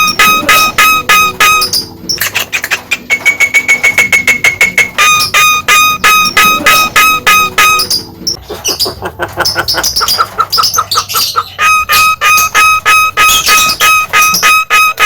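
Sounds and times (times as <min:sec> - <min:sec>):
bird chattering notes: 0:00.0 - 0:15.0
myna bird calling: 0:00.0 - 0:15.0.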